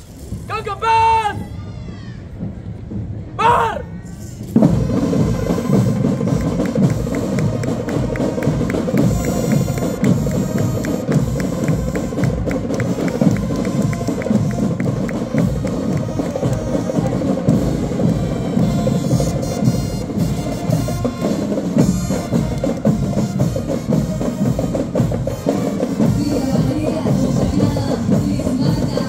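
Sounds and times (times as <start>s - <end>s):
drums beating: 0.2s - 29.0s
marching band playing: 0.2s - 29.0s.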